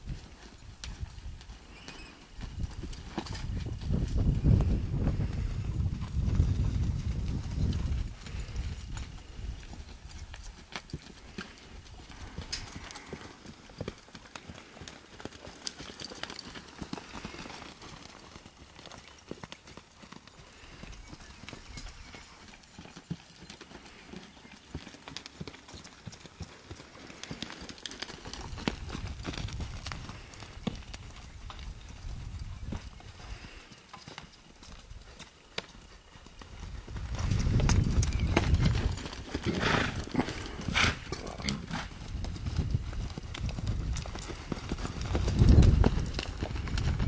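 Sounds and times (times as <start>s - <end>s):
hoofbeats on sand: 0.0s - 47.0s.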